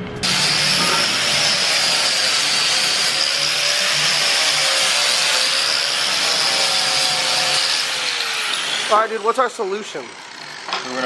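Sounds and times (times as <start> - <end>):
power tool whining: 0.2 - 11.0.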